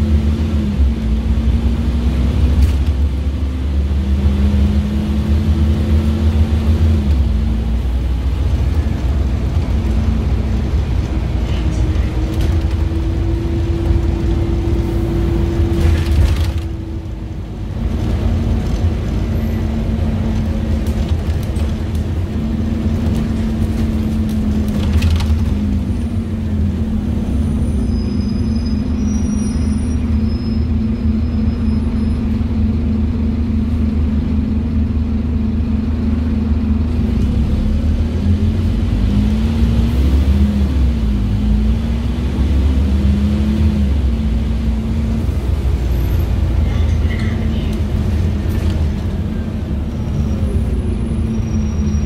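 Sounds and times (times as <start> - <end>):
bus diesel engine drone: 0.0 - 52.0
deep road rumble: 0.0 - 52.0.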